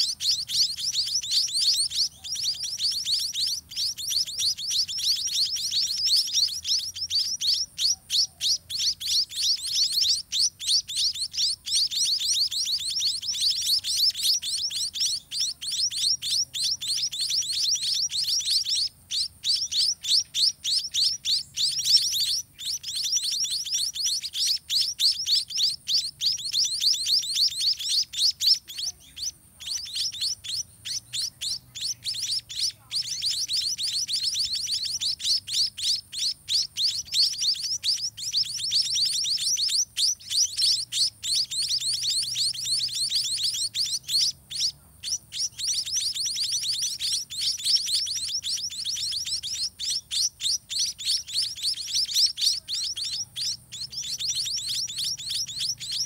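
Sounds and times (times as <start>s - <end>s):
nestlings chirping: 0.0s - 56.0s.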